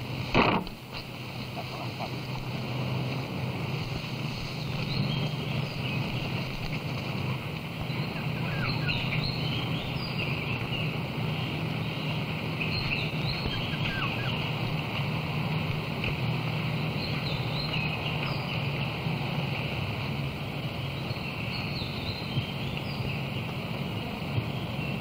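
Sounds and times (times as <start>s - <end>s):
low hum: 0.0s - 23.1s
birds chirping: 0.0s - 25.0s
steady hiss: 0.0s - 25.0s.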